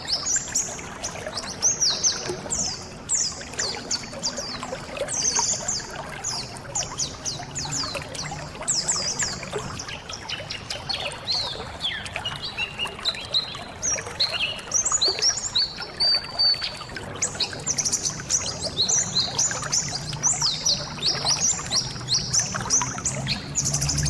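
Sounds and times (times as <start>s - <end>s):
birds chirping and twittering: 0.0s - 24.0s
trickling water: 0.0s - 24.0s.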